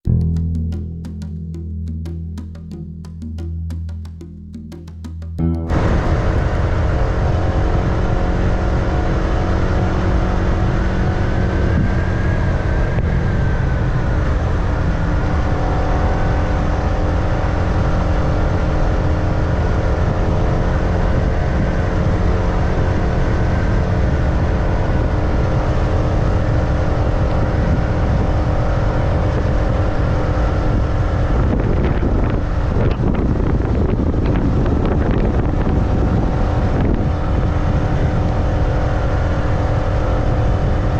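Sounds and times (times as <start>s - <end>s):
motorbike engine running: 5.5s - 40.9s
wind on microphone: 5.6s - 40.9s.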